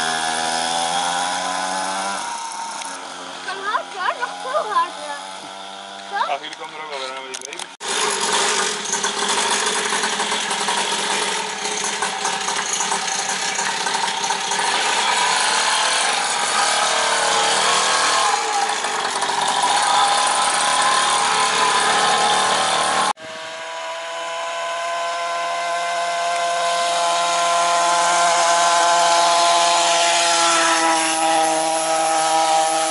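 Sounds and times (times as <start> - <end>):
small two-stroke engine buzzing: 0.0 - 32.9.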